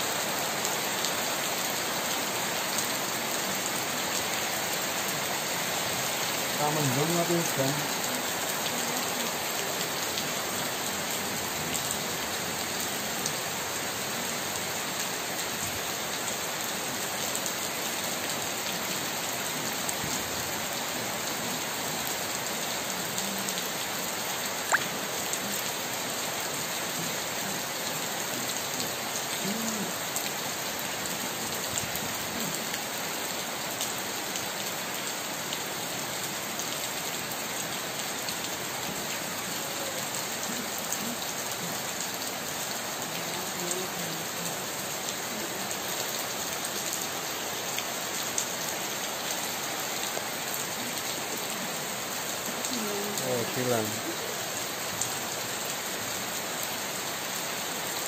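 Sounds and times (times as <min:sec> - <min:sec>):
heavy rain on paving: 0:00.0 - 0:58.0.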